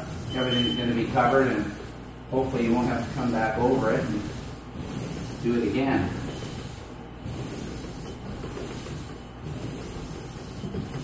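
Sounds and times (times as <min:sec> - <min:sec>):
paint roller rubbing on wall: 0:00.0 - 0:11.0.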